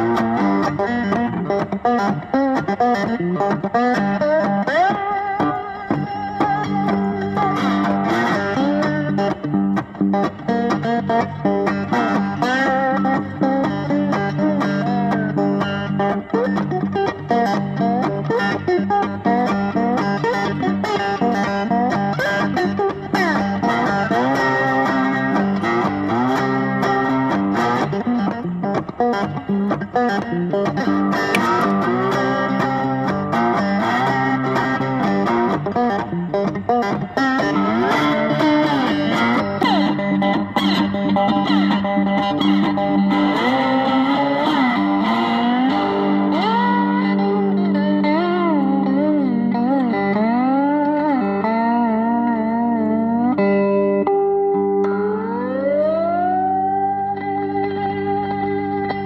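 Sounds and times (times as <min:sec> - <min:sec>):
guitar with bending notes: 0:00.0 - 0:59.0.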